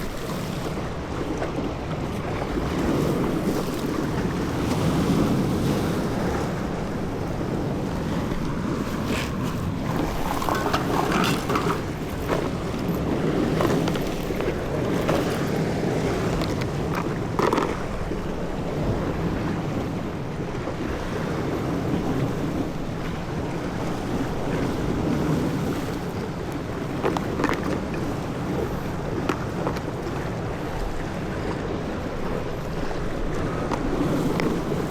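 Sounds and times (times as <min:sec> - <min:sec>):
water sloshing against boat: 0:00.0 - 0:34.9
wind buffeting microphone: 0:00.0 - 0:34.9.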